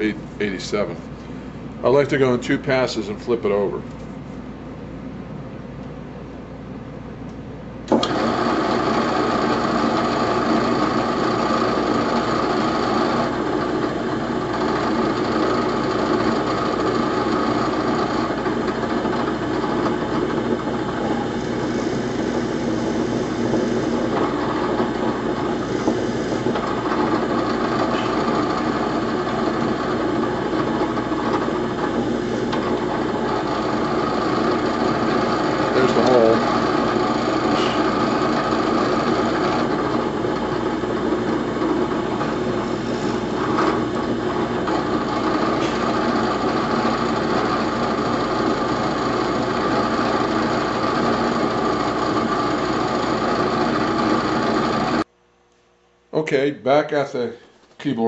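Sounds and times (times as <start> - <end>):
electric drill boring into wood: 7.9 - 55.0.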